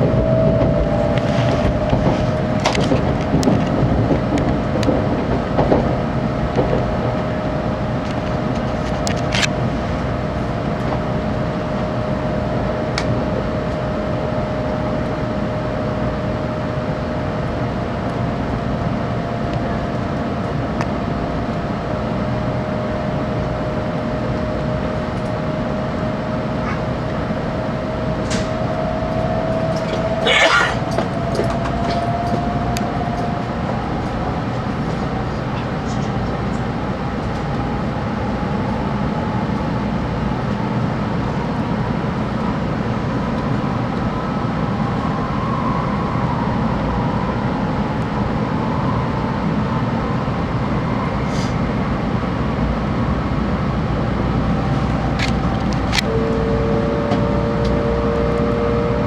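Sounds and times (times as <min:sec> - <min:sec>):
constant whine: 0:00.0 - 0:59.0
train wheels rumbling: 0:00.0 - 0:59.0.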